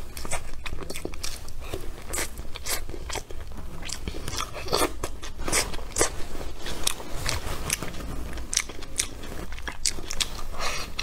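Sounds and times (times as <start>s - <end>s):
close chewing with wet smacks: 0.0s - 11.0s.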